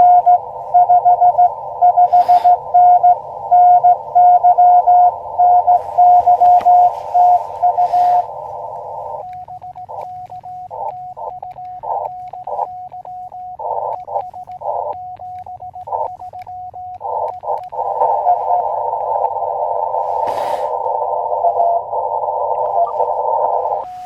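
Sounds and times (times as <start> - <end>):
morse code tone: 0.0 - 24.0
receiver hiss: 0.0 - 24.0.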